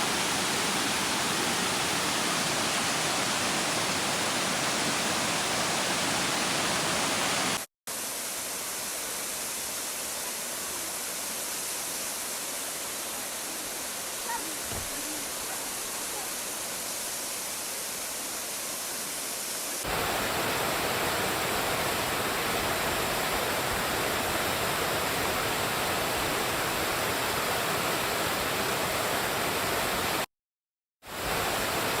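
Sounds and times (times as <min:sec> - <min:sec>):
waterfall rushing water: 0:00.0 - 0:30.3, 0:31.1 - 0:32.0.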